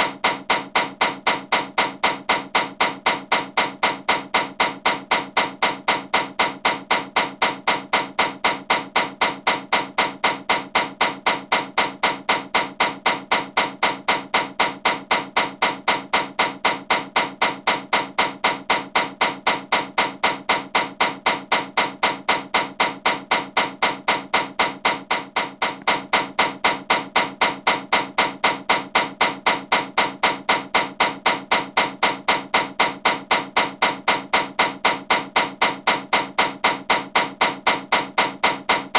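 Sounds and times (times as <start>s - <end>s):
ceiling fan with clacking knock: 0.0s - 38.9s.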